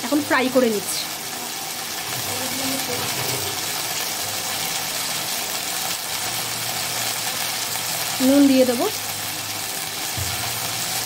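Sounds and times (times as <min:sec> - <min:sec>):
taro sizzling in hot oil: 0:00.0 - 0:11.0.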